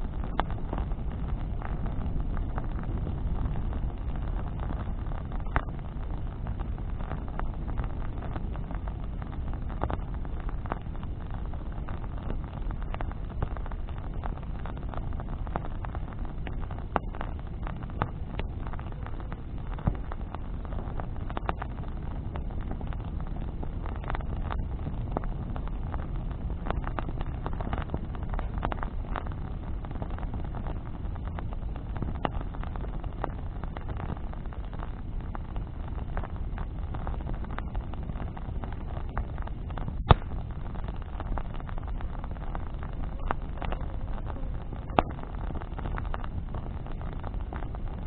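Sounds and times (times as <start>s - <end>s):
bonfire crackling: 0.0s - 48.0s
burning wood popping: 0.0s - 48.0s
low steady rumble: 0.0s - 48.0s.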